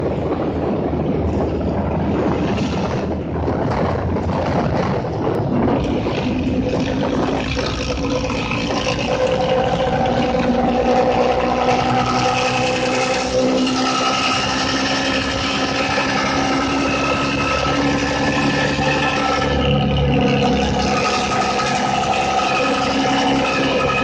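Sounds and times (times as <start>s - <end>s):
diesel bus engine growling: 0.0s - 24.0s
steady pitched drone: 0.0s - 24.0s.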